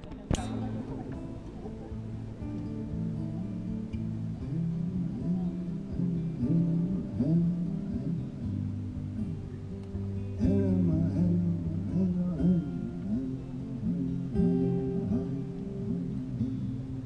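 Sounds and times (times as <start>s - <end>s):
guitar: 0.0s - 17.0s
sliding pitched notes: 0.1s - 17.0s.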